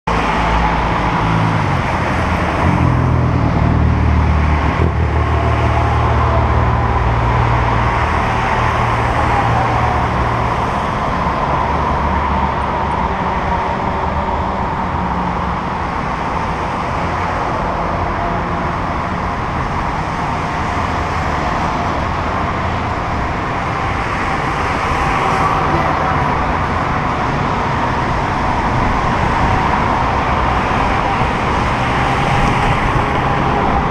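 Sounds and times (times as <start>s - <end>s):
cars passing close by: 0.1s - 33.9s
wind rushing over microphone: 0.1s - 33.9s.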